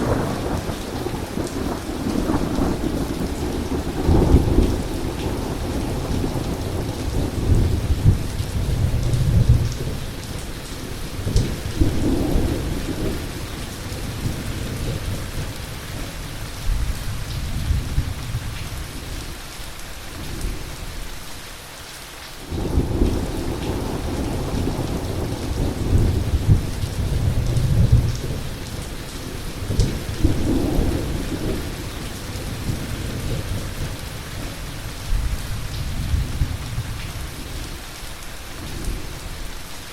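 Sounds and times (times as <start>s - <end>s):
rolling thunder: 0.0s - 19.2s, 22.5s - 37.8s
heavy rain falling: 0.0s - 39.9s.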